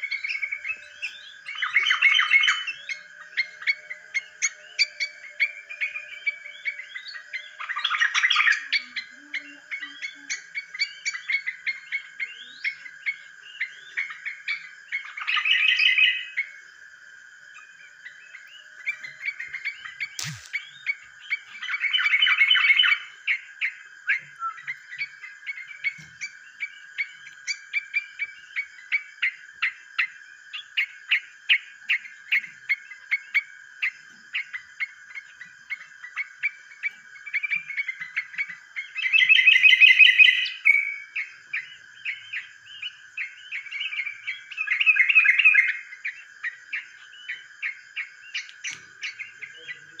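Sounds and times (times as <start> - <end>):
bird chirps: 0.0 - 50.0
rapid chattering bird song: 0.0 - 50.0.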